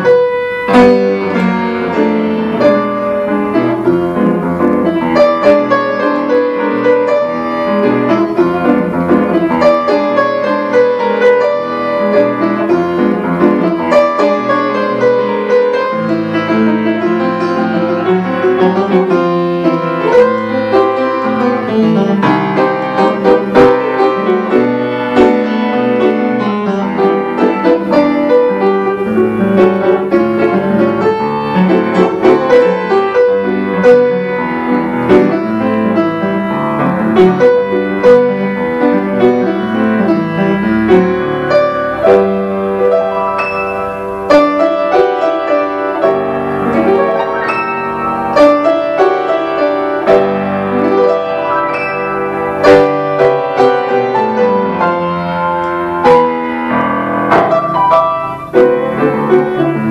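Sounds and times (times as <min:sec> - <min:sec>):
upright piano playing: 0:00.0 - 0:59.9.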